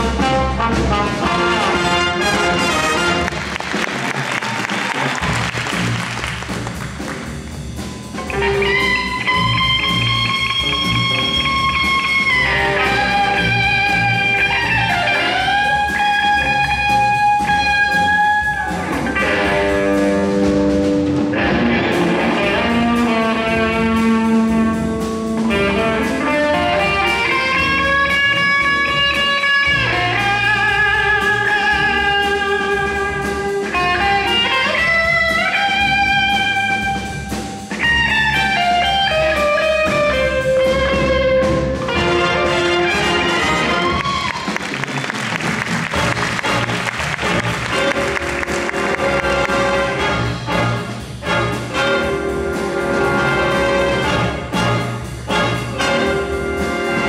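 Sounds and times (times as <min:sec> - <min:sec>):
jazz band rhythm section: 0:00.0 - 0:57.0.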